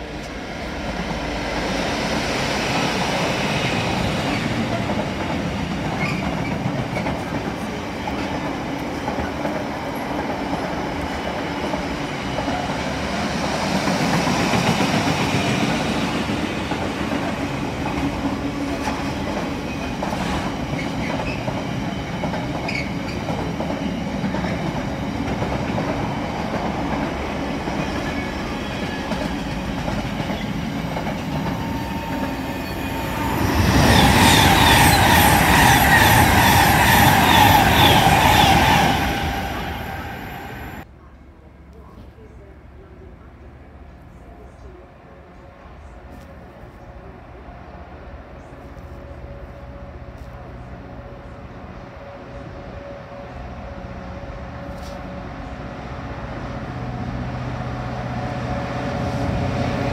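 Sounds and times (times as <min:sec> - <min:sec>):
passenger train rushing past: 0:00.0 - 0:40.9, 0:46.9 - 0:59.9.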